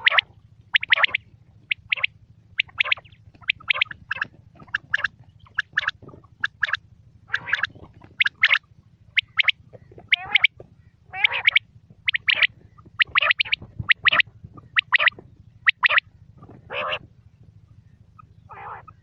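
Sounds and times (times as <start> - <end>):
quail calling: 0.0 - 17.1, 17.7 - 19.0.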